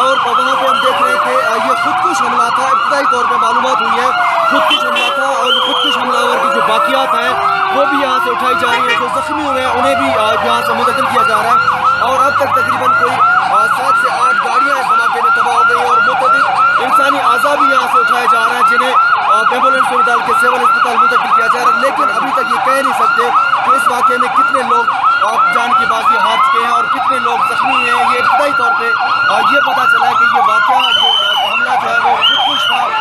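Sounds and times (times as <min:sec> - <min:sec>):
ambulance siren fast warble: 0:00.0 - 0:33.0
ambulance siren slow wail: 0:00.0 - 0:33.0.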